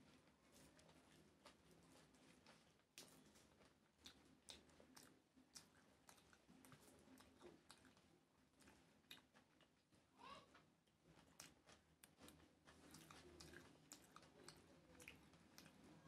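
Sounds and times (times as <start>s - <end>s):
fingers mixing rice and curry: 0.0s - 16.0s
wet chewing clicks: 0.6s - 10.0s, 10.6s - 16.0s.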